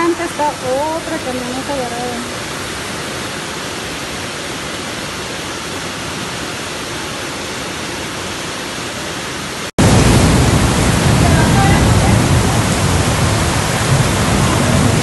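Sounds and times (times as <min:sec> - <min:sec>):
floodwater rushing: 0:00.0 - 0:15.0
heavy rain: 0:00.0 - 0:15.0.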